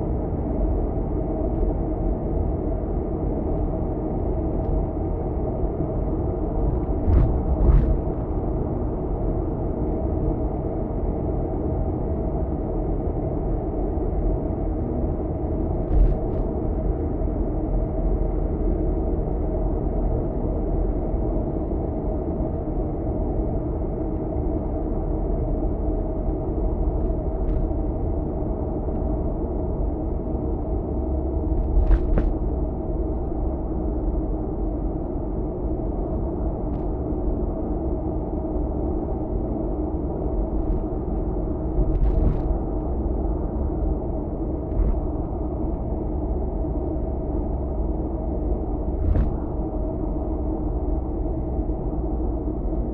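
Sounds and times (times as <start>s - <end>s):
car road and engine noise: 0.0s - 52.9s.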